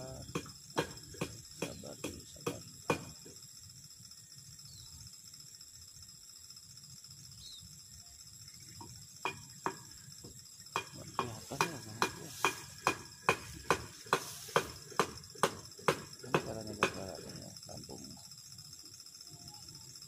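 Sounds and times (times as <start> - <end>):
sharp evenly spaced clicks: 0.0 - 20.0.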